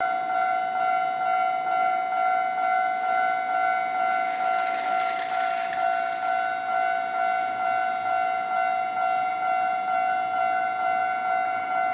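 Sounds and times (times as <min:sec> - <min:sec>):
level-crossing warning bell: 0:00.0 - 0:11.9.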